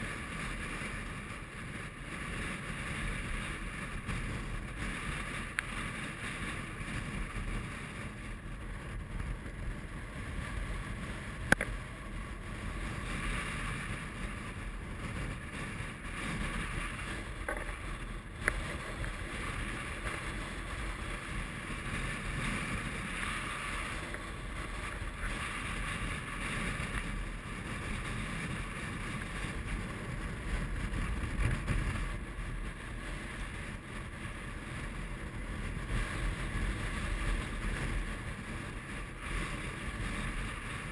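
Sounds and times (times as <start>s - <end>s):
wind blowing across microphone: 0.0s - 40.9s.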